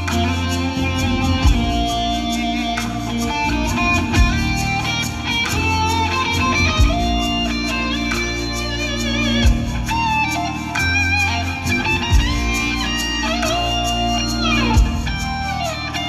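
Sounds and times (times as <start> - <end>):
electric guitar lead with bending notes: 0.0 - 16.0
rock band backing: 0.0 - 16.0.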